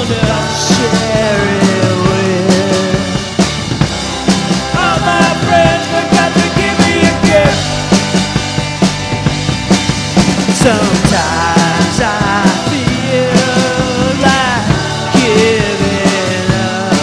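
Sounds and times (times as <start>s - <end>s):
rock song with drums and guitar: 0.0s - 17.0s
sliding melody line: 0.0s - 17.0s.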